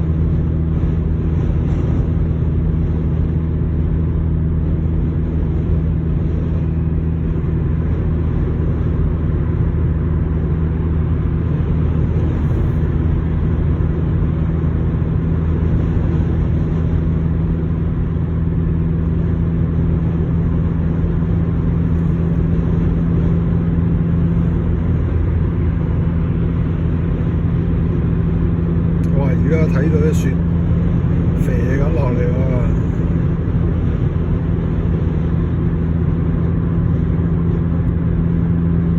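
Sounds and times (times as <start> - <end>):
car engine and tyres drone: 0.0 - 38.9.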